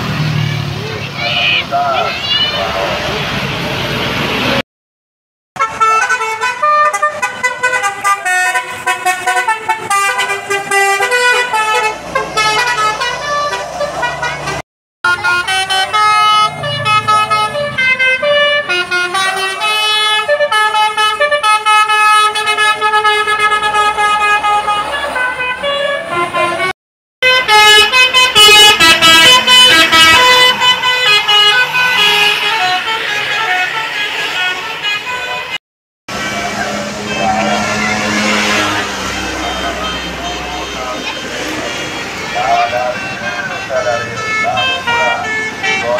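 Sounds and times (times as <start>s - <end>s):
multi-tone bus horns playing melodies: 5.6s - 45.9s.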